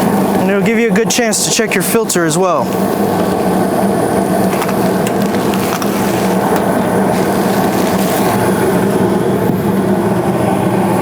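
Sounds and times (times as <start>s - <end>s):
gas furnace humming: 0.0s - 11.0s.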